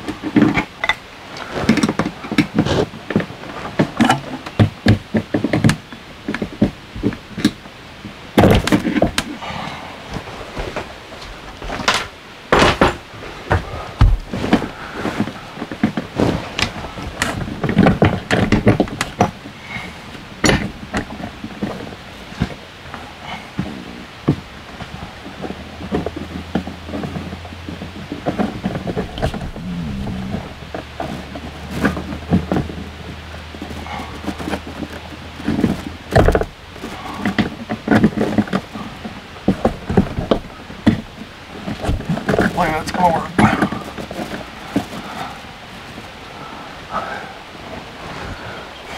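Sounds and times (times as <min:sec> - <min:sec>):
knocks and rattles of cables: 0:00.0 - 0:46.2
steady low hum: 0:00.0 - 0:48.9.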